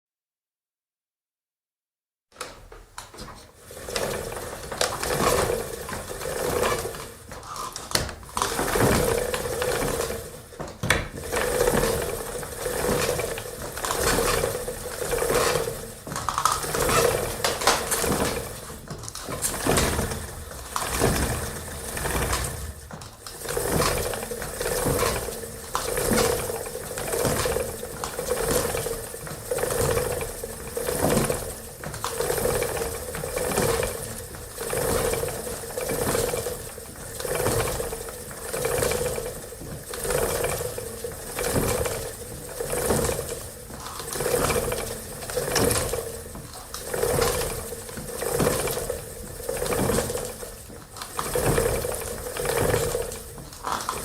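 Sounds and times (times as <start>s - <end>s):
wooden spinning wheel turning: 2.6s - 54.0s.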